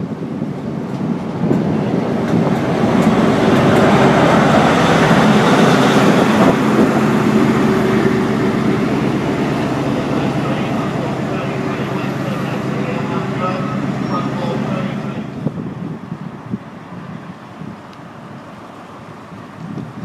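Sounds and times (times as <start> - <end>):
train coaches rolling past: 0.0 - 19.6
diesel engine running: 0.2 - 16.3.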